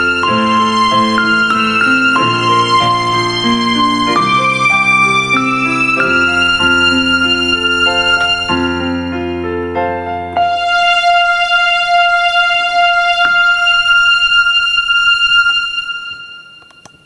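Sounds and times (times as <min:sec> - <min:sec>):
synthesizer waltz melody: 0:00.0 - 0:17.0.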